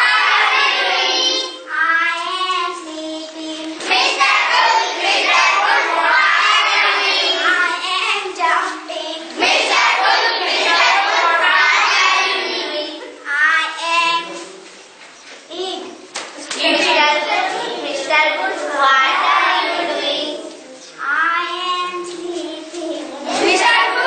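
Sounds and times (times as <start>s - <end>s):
children singing together: 0.0s - 14.6s, 15.5s - 24.0s.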